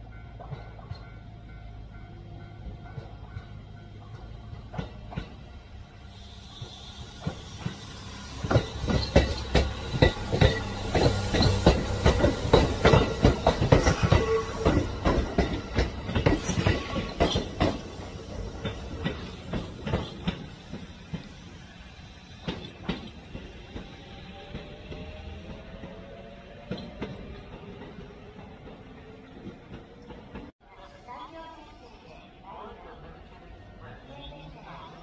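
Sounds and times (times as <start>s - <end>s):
low train rumble: 0.0s - 35.0s
train wheels clattering over rails: 0.3s - 5.5s, 6.2s - 30.5s.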